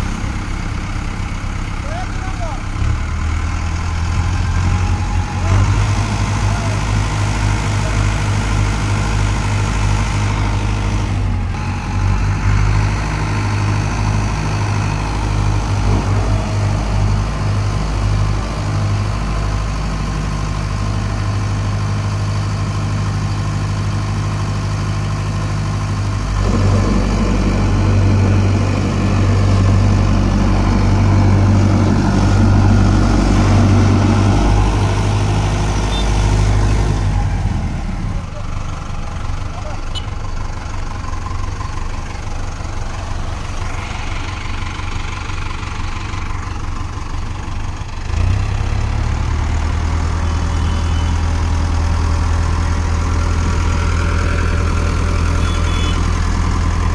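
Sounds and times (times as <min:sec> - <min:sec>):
tractor diesel engines running: 0:00.0 - 0:56.9.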